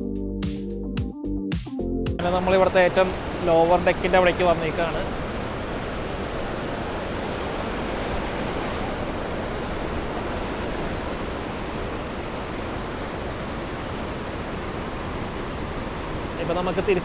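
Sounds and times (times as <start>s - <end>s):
whitewater rapids rushing: 2.2s - 17.0s.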